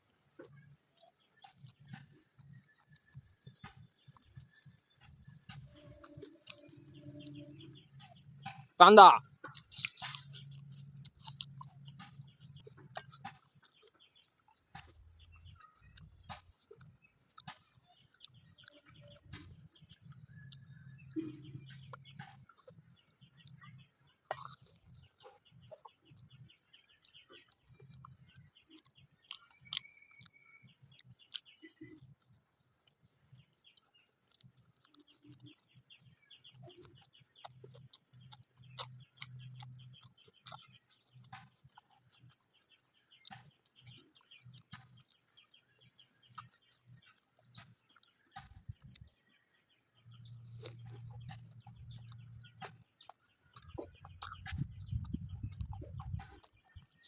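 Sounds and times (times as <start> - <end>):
bird chirp: 0.0 - 57.0
person chewing crunchy food: 0.0 - 57.0.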